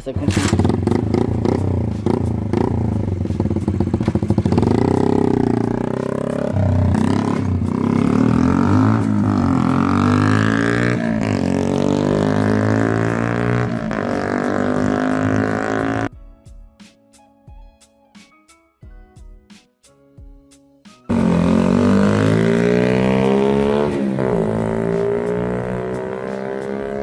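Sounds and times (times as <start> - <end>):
loud minibike engine revving: 0.0 - 16.1, 21.1 - 27.0.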